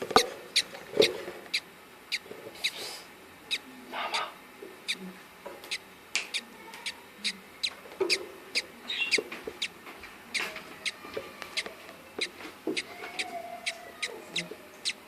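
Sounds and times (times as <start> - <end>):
budgerigars chirping: 0.6 - 2.9, 3.5 - 5.0, 5.7 - 15.0.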